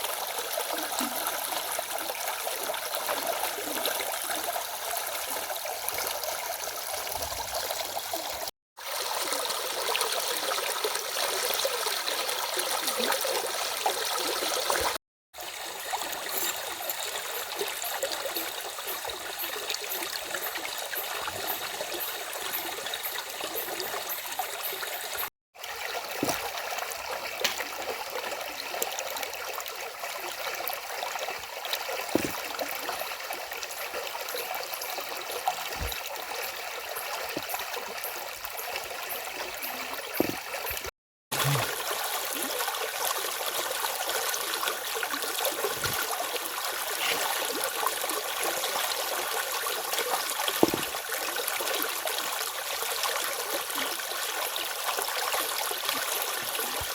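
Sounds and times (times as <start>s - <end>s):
small stream running: 0.0s - 56.9s.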